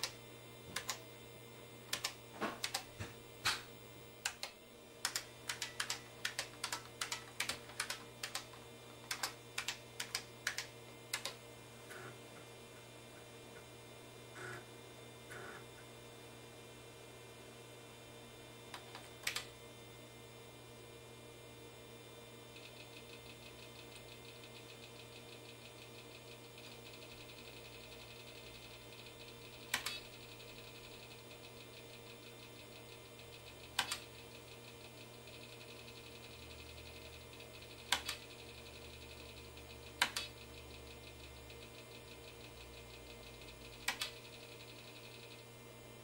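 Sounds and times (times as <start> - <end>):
computer humming: 0.0 - 46.0.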